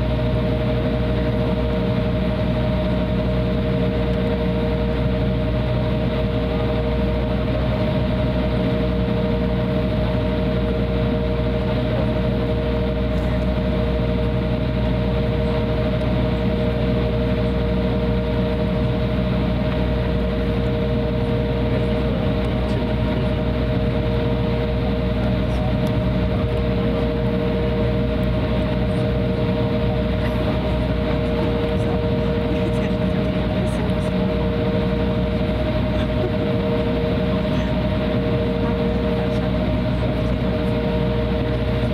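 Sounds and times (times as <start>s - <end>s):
jet engines idling whine: 0.0s - 41.9s.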